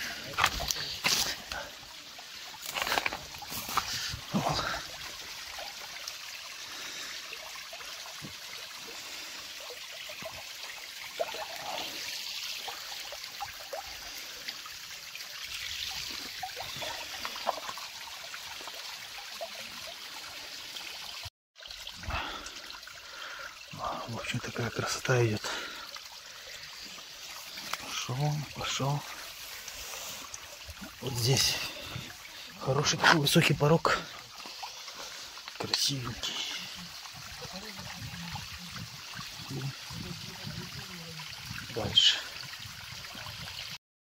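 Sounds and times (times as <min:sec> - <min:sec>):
brook trickling over stones: 0:00.0 - 0:43.8.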